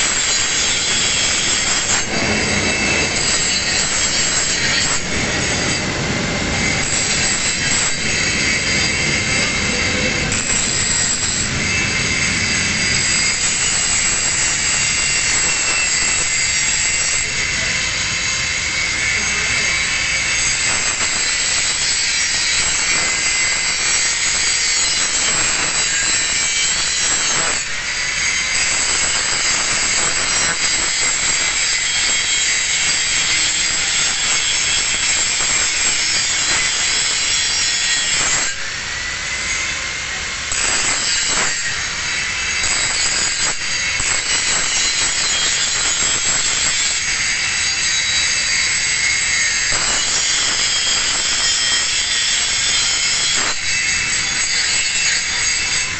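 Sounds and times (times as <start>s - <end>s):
angle grinder grinding steel: 0.0s - 55.9s
grinder disc whine: 0.0s - 55.9s.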